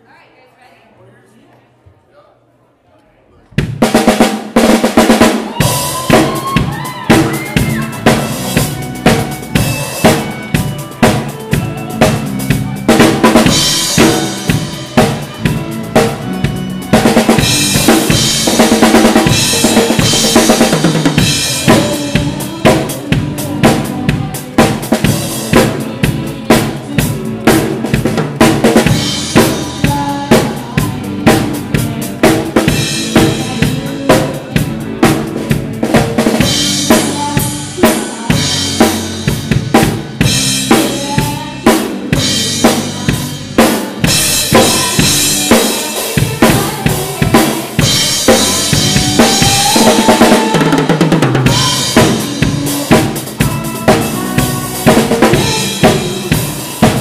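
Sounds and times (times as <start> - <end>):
rock drum beat: 3.6 - 57.0
electric guitars and bass: 5.0 - 57.0.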